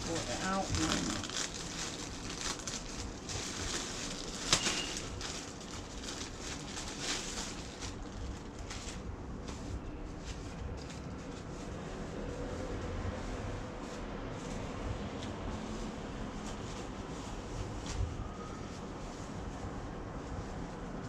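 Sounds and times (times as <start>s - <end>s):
rustling and handling noises: 0.0s - 21.0s.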